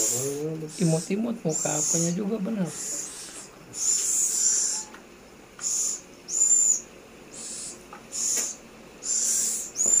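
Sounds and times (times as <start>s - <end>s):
owl chicks hissing calls: 0.0s - 10.0s.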